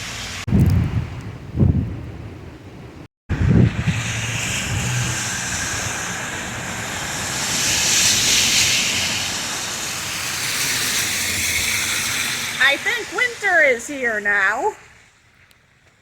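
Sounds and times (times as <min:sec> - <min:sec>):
storm wind rushing hiss: 0:00.0 - 0:13.8
road noise: 0:00.0 - 0:16.0
wind buffeting microphone: 0:00.4 - 0:13.4.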